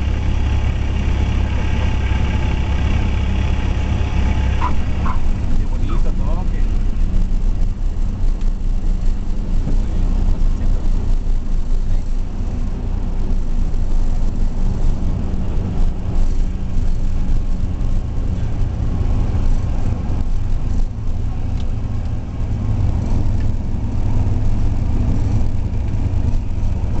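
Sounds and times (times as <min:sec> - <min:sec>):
airplane engine and propeller drone: 0:00.0 - 0:27.0.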